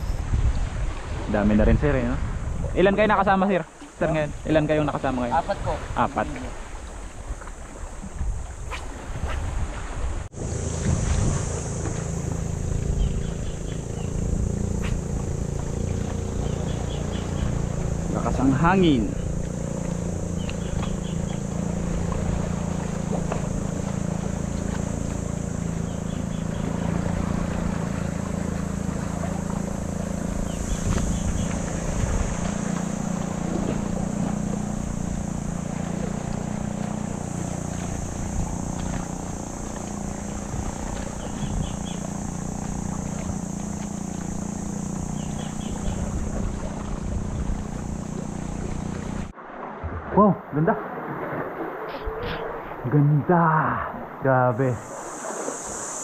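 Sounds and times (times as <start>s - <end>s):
wind on microphone: 0.0s - 50.2s, 51.0s - 56.0s
boat engine humming: 0.0s - 56.0s.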